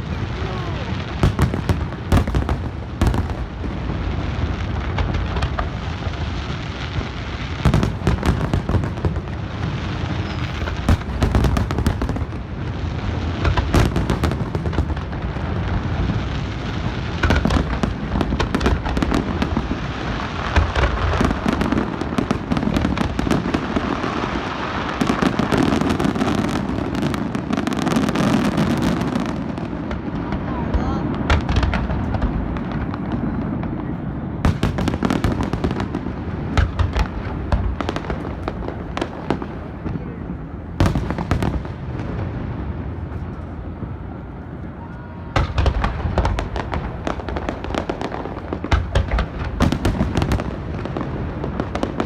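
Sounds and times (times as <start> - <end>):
fireworks booming bursts: 0.0 - 52.0
fireworks crackling: 0.0 - 52.0.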